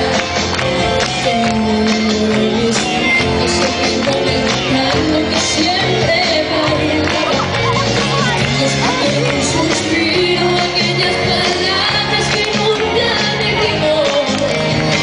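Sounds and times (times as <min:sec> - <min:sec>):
live pop-rock band playing: 0:00.0 - 0:15.0
woman singing: 0:00.0 - 0:15.0.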